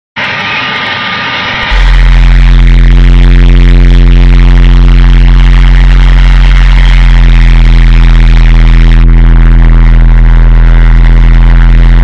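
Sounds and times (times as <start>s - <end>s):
deep electronic hum: 1.4s - 12.0s.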